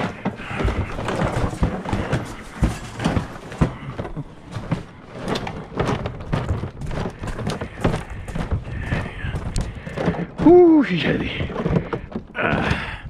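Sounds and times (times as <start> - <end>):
footsteps on gravel: 0.0 - 12.9
tools and gear clattering: 0.0 - 13.0.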